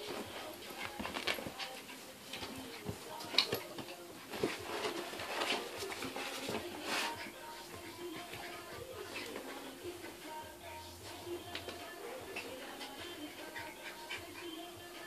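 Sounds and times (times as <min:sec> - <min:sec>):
dogs panting: 0:00.0 - 0:15.0
dogs scuffling on bedding: 0:00.0 - 0:15.0.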